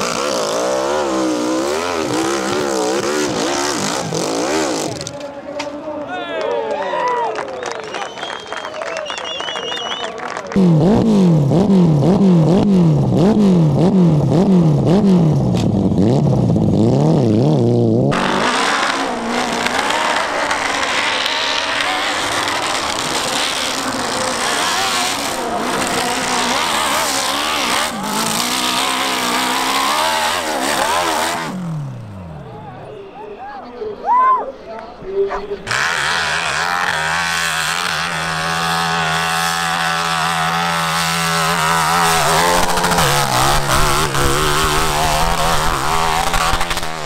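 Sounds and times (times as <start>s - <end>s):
dirt bike engine revving: 0.0s - 5.4s, 10.5s - 33.2s, 35.6s - 47.0s.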